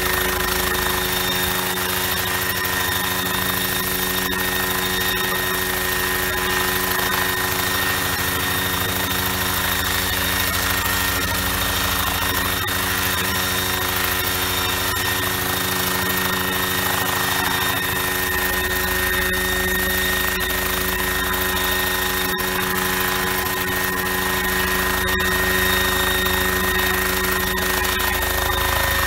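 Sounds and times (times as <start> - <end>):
helicopter engine and rotors: 0.0 - 29.0.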